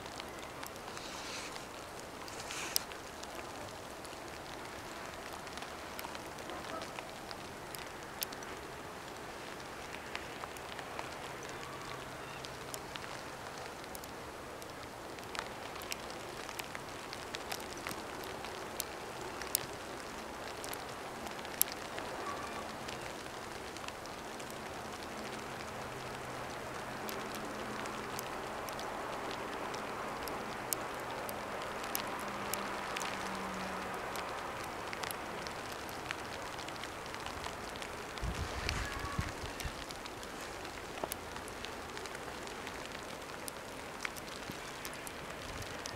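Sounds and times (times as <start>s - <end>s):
light ticks: 0.0s - 45.9s
outdoor background noise: 0.0s - 45.9s.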